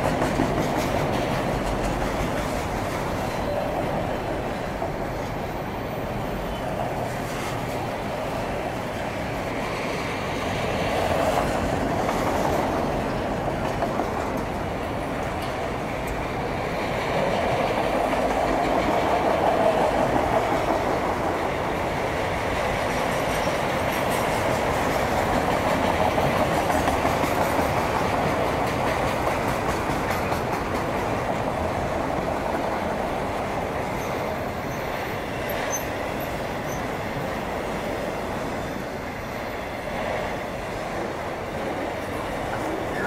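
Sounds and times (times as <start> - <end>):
freight cars rumbling and rattling: 0.0 - 43.0.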